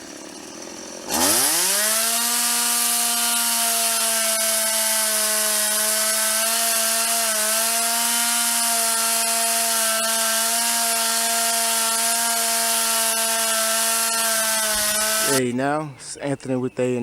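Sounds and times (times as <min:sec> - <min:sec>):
two-stroke saw engine whining: 0:00.0 - 0:16.7.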